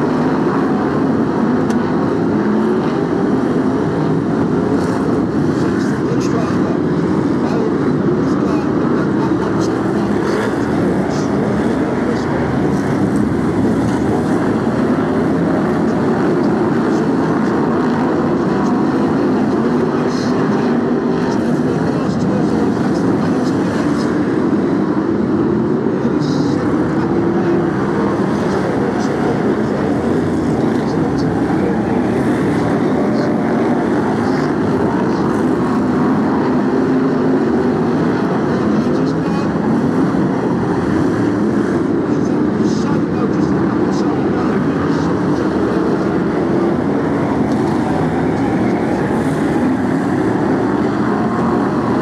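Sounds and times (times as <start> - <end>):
many race car engines droning: 0.0 - 52.0.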